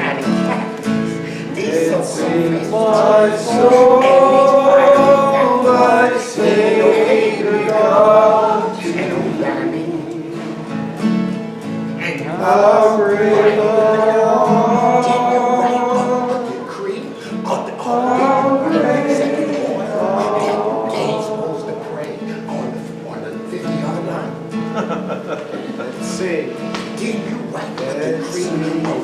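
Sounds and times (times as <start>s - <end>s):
man singing gospel: 0.0s - 10.8s, 12.0s - 24.9s, 25.6s - 29.0s
guitar accompaniment: 0.0s - 29.0s.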